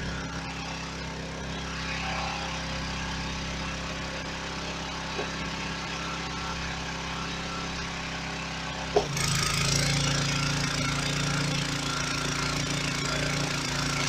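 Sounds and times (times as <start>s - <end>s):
pressure washer engine running: 0.0s - 14.0s.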